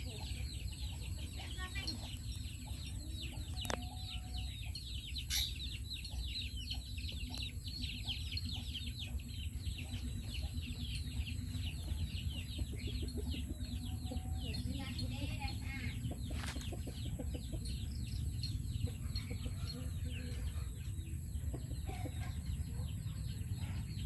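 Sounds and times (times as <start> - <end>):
chicks chirping: 0.0 - 24.0.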